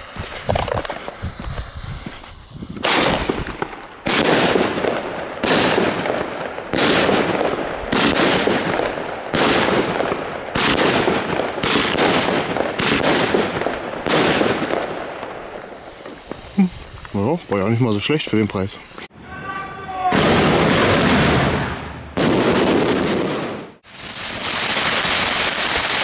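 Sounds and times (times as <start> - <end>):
fireworks battery shots: 0.0 - 19.1, 20.0 - 26.0.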